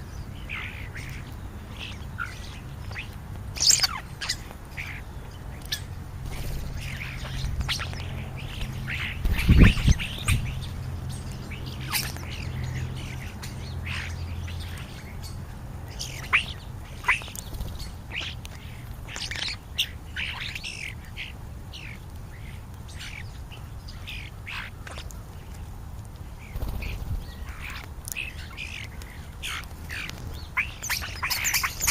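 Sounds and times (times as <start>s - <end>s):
starlings squawking and chirping: 0.0s - 25.6s, 26.2s - 31.9s.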